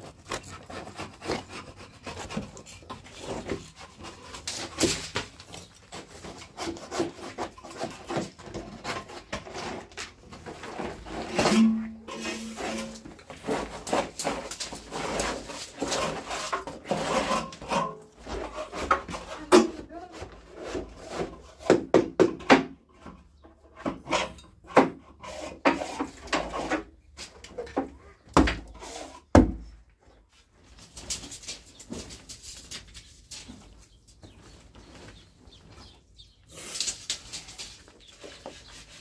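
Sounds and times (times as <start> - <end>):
rubbing and scraping wood: 0.0 - 39.0.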